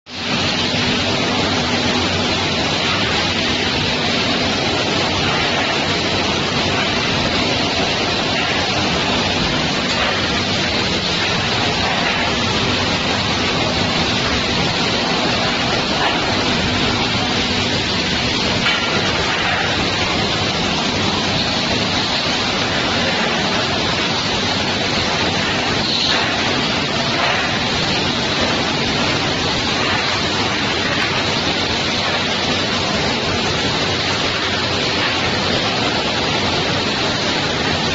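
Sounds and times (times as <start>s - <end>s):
faint machine hum: 0.1s - 37.9s
water jets spraying crates: 0.1s - 37.9s.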